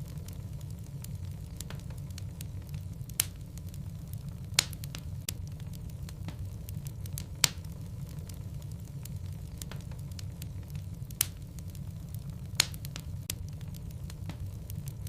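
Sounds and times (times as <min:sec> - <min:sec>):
logs crackling in fireplace: 0:00.0 - 0:15.0.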